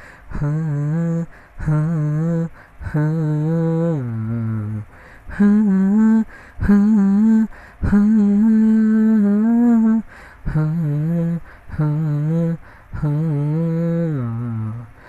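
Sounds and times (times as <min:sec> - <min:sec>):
man humming a melody: 0:00.0 - 0:15.0.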